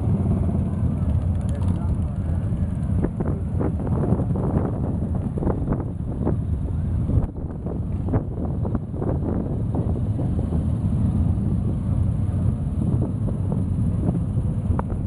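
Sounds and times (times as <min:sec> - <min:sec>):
motorcycles riding past: 0:00.0 - 0:15.0.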